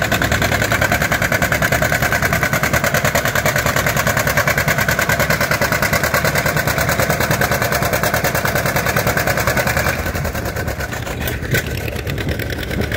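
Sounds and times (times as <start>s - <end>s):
tractor engine under load: 0.0s - 12.9s.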